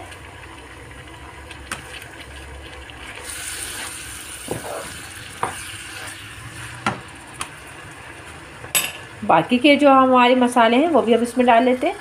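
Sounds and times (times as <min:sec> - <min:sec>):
mince frying in hot oil: 0:00.0 - 0:12.0.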